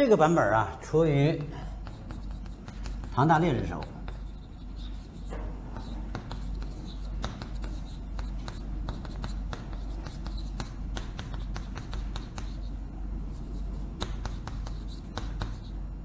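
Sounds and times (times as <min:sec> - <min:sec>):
steady low hum: 0:00.0 - 0:16.0
chalk tapping on blackboard: 0:01.3 - 0:15.8.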